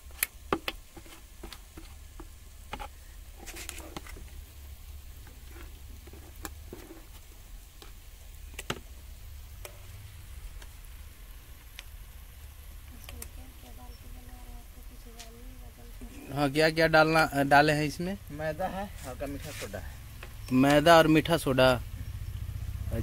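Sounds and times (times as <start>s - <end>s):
sizzle of frying in oil: 0.0s - 23.0s.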